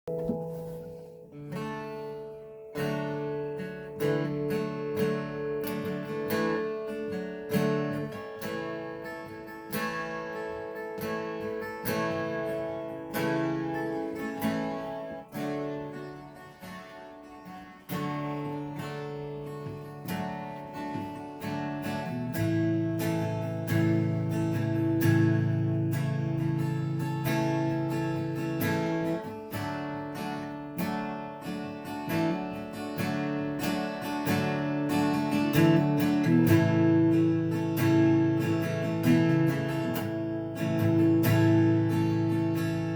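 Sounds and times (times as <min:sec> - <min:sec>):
acoustic guitar chords ringing: 0:00.0 - 0:42.9.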